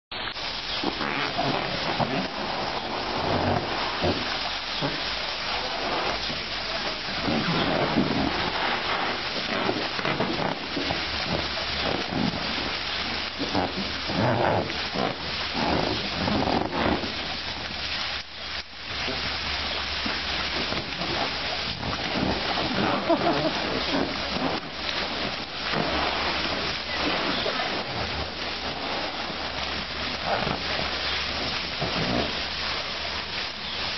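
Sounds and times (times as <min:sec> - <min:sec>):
water splashing in paddling pool: 0:00.1 - 0:33.9
hose spraying into water: 0:00.2 - 0:33.9.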